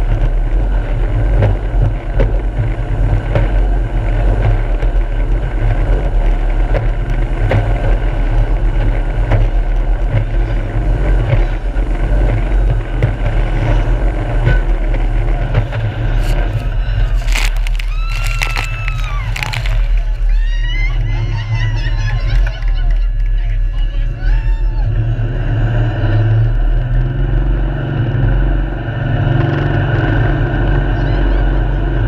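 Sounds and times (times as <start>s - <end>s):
jet boat engine rumble: 0.0s - 32.0s.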